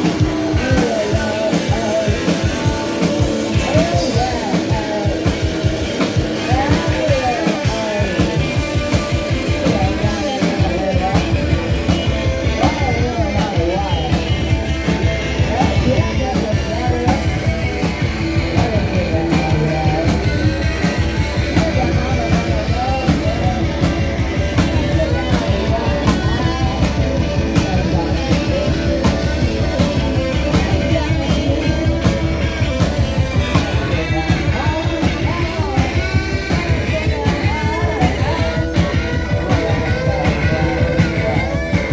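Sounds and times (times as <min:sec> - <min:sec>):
driving drumbeat: 0:00.0 - 0:41.9
electric guitars: 0:00.0 - 0:41.9.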